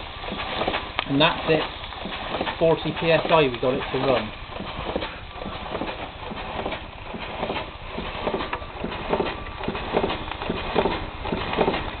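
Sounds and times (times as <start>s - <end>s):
steam engine exhaust beats: 0.0s - 12.0s
steam hiss: 0.0s - 12.0s.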